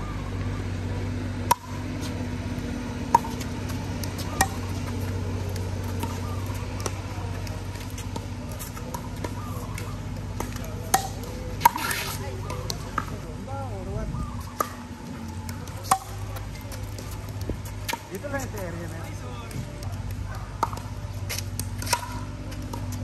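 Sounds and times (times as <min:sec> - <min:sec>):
low hum: 0:00.0 - 0:23.0
paddles hitting plastic ball: 0:03.0 - 0:13.2, 0:14.5 - 0:23.0.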